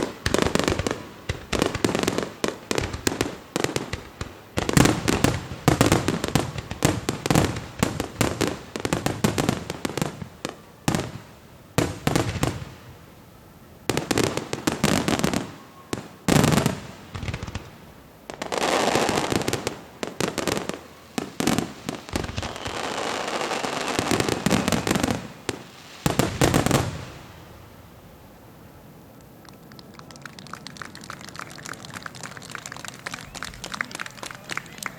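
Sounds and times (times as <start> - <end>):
firework crackling: 0.0 - 13.0, 13.8 - 28.3, 28.9 - 34.9.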